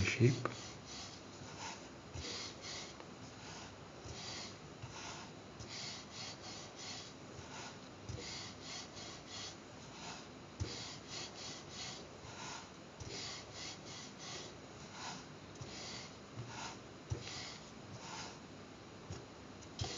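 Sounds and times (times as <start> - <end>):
rolling pin rasping over dough: 0.4 - 18.5, 19.1 - 19.9.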